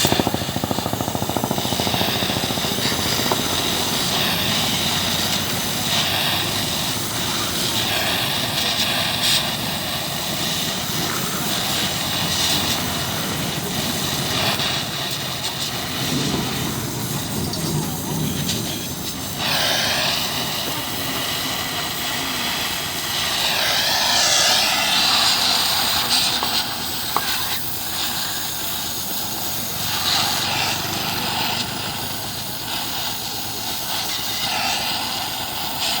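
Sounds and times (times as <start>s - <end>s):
welding torch flame hissing: 0.0s - 36.0s.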